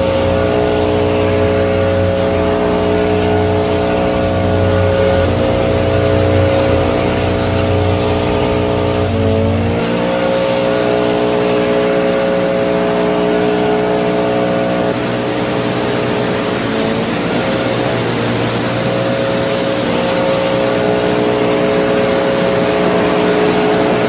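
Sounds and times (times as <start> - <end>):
small motor running: 0.0 - 24.0.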